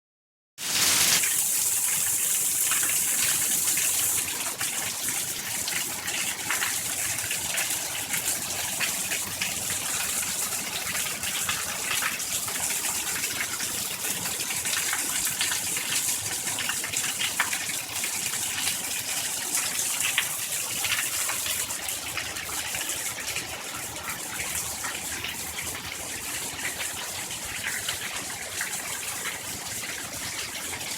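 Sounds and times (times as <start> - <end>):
steady rain with drop ticks: 0.7 - 30.9.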